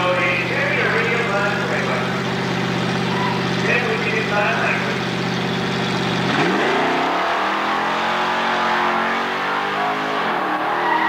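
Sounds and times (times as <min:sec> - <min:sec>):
cars accelerating at full throttle: 0:00.0 - 0:11.0.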